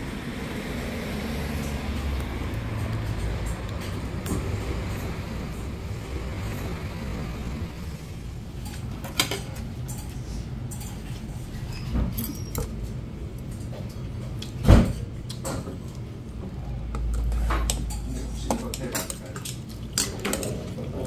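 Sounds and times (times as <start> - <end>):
restaurant room noise: 0.0 - 21.0.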